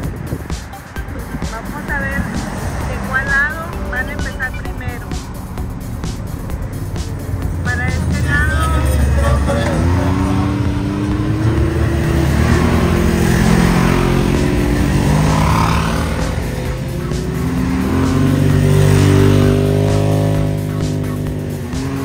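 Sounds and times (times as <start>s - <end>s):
vehicle engines revving: 0.0s - 22.0s.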